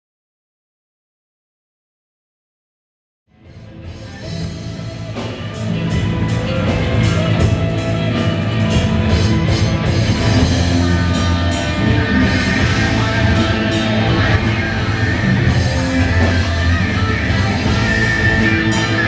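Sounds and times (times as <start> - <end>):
rock band music: 3.3 - 19.0.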